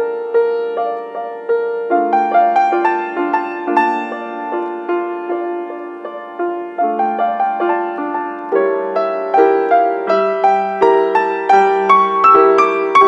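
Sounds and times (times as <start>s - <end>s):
gentle grand piano melody: 0.0s - 13.0s.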